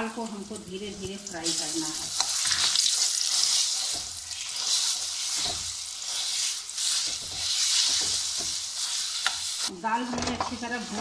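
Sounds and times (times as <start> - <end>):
paste sizzling in hot oil: 0.0 - 9.8.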